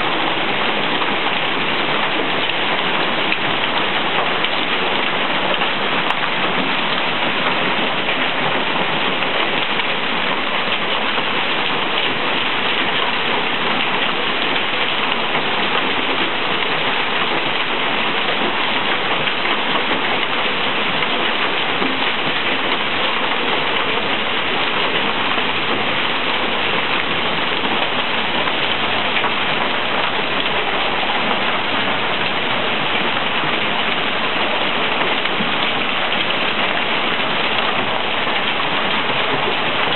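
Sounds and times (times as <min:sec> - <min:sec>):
hailstones on pavement and cars: 0:00.0 - 0:39.9.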